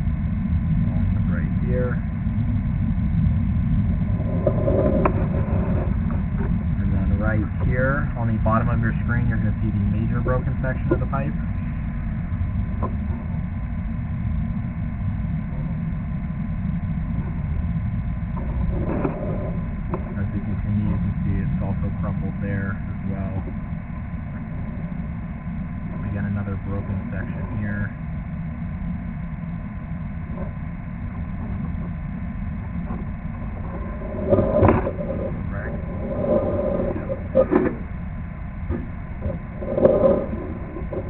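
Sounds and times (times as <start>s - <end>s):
low mechanical rumble: 0.0s - 41.0s.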